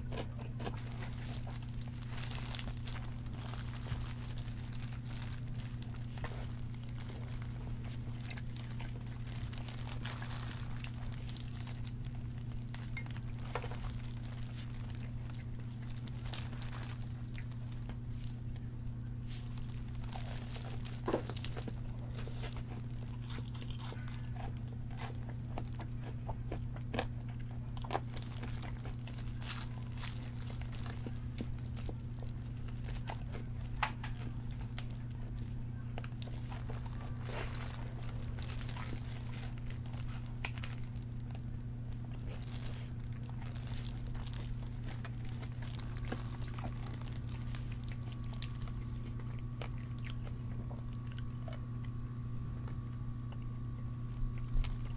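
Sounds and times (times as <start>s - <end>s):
crunching fried chicken: 0.0s - 54.9s
steady low hum: 0.0s - 54.9s.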